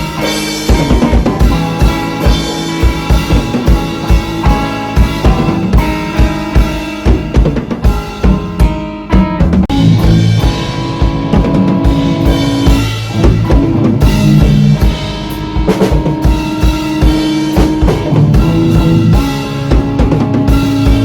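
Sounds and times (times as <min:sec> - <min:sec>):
drum kit kick and snare: 0:00.0 - 0:21.0
rock band playing instrumental: 0:00.0 - 0:21.0.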